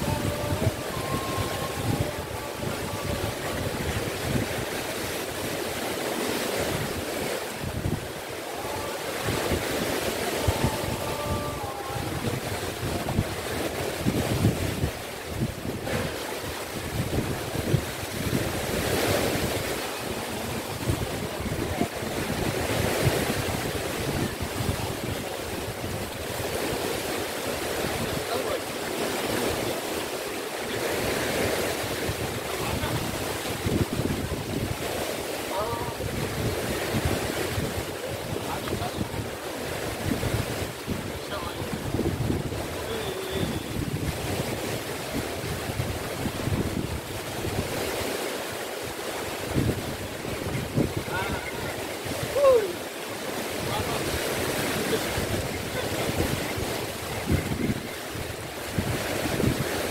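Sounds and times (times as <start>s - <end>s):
sea waves washing on shore: 0.0s - 59.9s
wind buffeting microphone: 0.0s - 59.9s.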